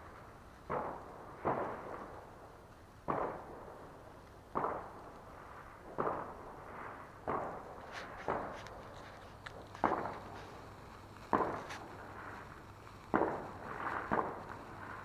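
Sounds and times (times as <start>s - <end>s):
distant fireworks bangs: 0.0s - 15.0s.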